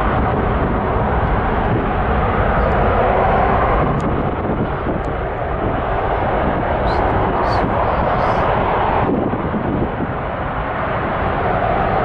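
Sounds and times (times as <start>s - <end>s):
jet engines rushing: 0.0s - 12.0s
wind buffeting microphone: 0.0s - 12.0s.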